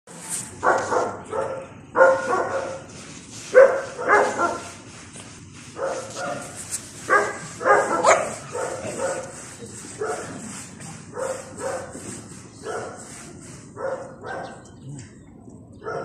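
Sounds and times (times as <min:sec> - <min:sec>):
dogs barking: 0:00.6 - 0:02.9, 0:03.5 - 0:04.8, 0:05.7 - 0:15.2, 0:15.8 - 0:16.0.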